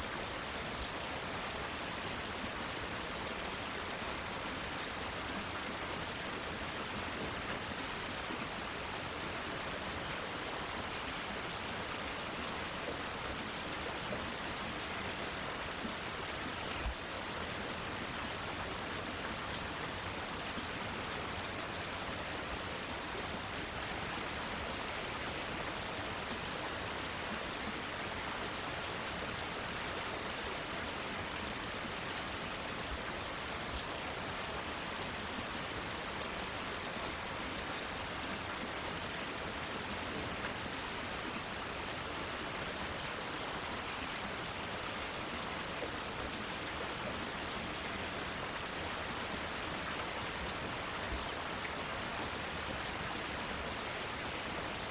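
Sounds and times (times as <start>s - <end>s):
rain falling on plants: 0.0s - 54.9s.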